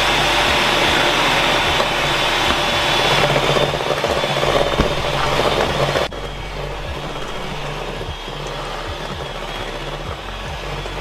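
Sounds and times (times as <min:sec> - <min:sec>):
electric hand mixer running: 0:00.0 - 0:11.0.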